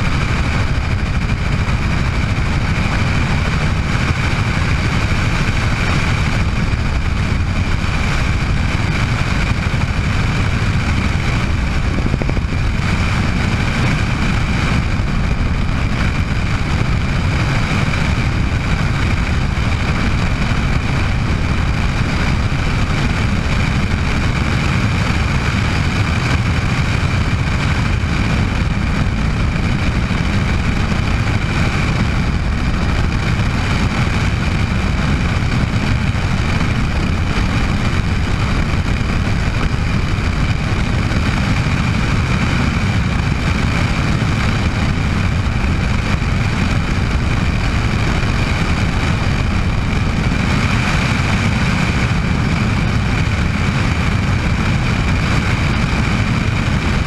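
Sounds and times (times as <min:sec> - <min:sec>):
helicopter rotor and engine: 0:00.0 - 0:57.0.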